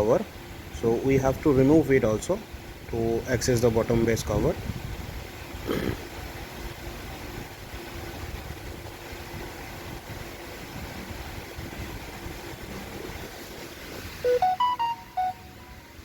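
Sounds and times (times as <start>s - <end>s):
faint hum: 0.0s - 16.0s
low background rumble and hiss: 0.0s - 16.0s.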